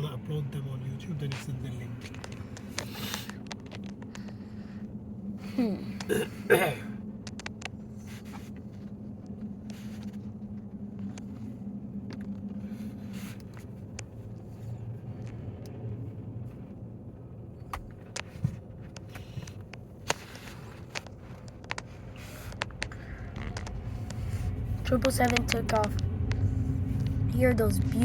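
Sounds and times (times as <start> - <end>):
jet engines rumbling: 0.0 - 28.0
low hum: 0.0 - 28.0.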